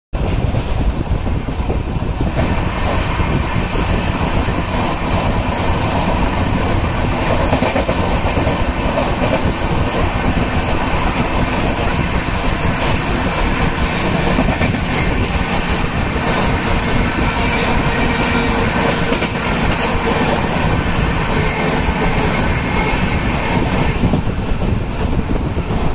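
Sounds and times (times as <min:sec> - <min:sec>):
rumble of train wheels on rail: 0:00.1 - 0:25.9.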